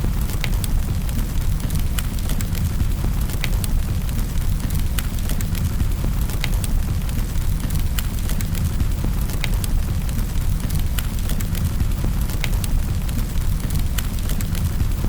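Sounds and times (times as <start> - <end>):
crackles and pops of wood: 0.0 - 15.0
low rumble of flames: 0.0 - 15.0.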